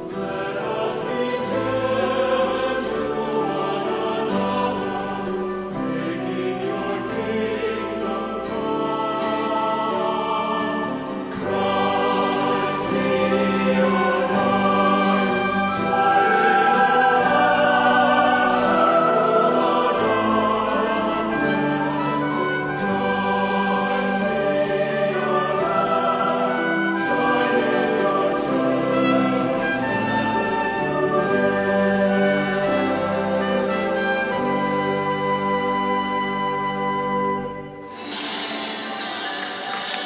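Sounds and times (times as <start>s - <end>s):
choir singing held chords: 0.0s - 40.0s.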